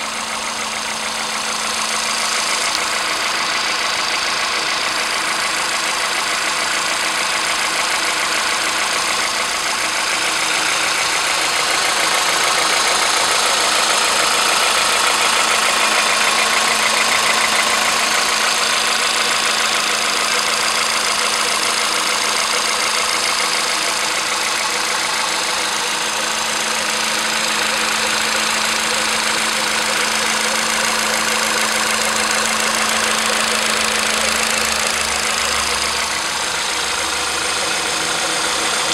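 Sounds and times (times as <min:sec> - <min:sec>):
petrol engine idling with clatter: 0:00.0 - 0:38.9.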